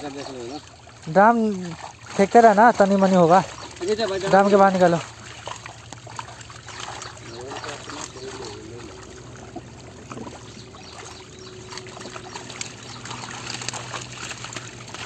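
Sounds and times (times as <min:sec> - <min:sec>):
fish splashing in shallow water: 0:00.0 - 0:15.0
trickling water: 0:00.0 - 0:15.0.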